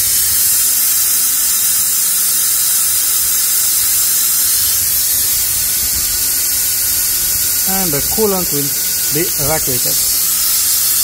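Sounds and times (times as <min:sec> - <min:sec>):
vacuum extractor hissing: 0:00.0 - 0:11.0.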